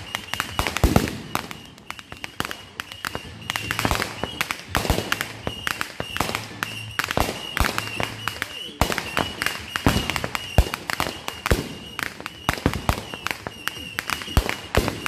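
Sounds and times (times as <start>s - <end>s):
fireworks bangs: 0.0s - 15.0s
fireworks crackling and popping: 0.0s - 15.0s.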